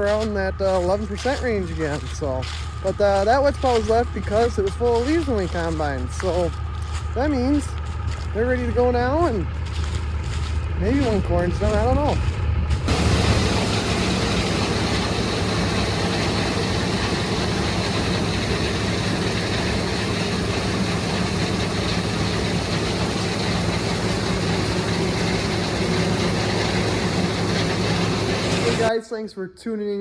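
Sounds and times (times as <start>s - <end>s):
diesel farm machinery running: 0.0s - 28.9s.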